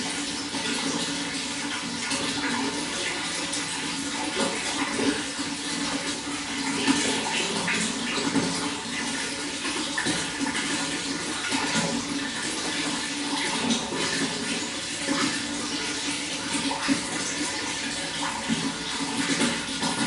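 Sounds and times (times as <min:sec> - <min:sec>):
running water splashing: 0:00.0 - 0:20.0.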